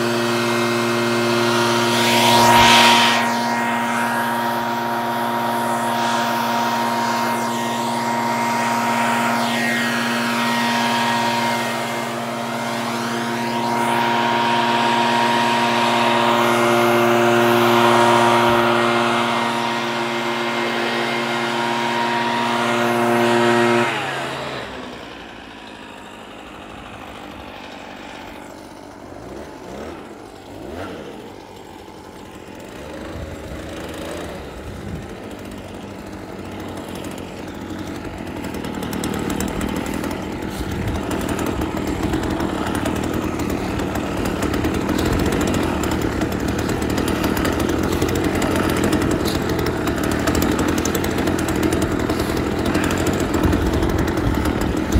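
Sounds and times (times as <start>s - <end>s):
leaf blower running: 0.0s - 54.9s.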